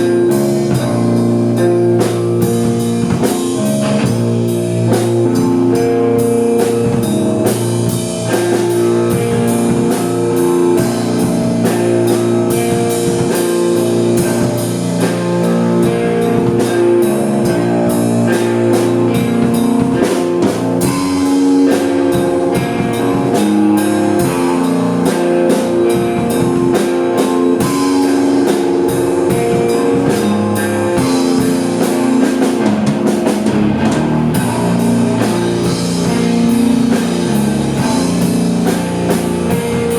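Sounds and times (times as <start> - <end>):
drum kit beat: 0.0 - 39.9
rock guitar: 0.0 - 39.9.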